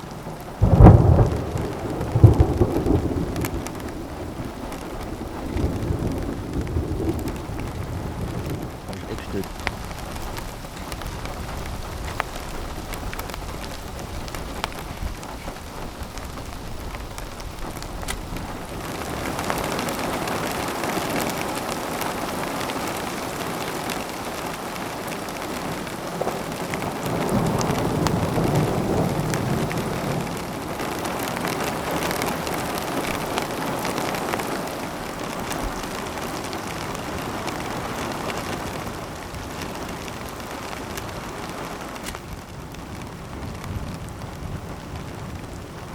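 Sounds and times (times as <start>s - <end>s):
low rumble of thunder: 0.0s - 41.6s, 42.3s - 45.9s
rain falling: 0.0s - 45.9s
raindrops ticking: 0.0s - 45.9s.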